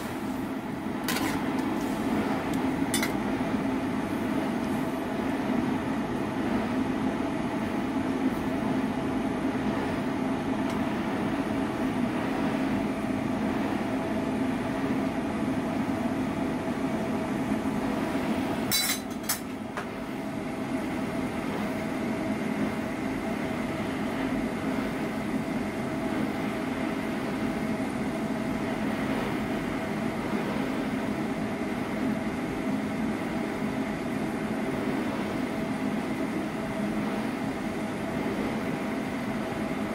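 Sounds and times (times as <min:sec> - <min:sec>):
kitchen hum and rumble: 0:00.0 - 0:39.9.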